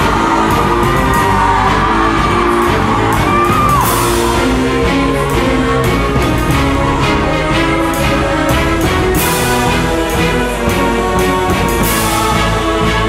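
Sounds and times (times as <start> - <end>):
dance music: 0.0 - 13.0.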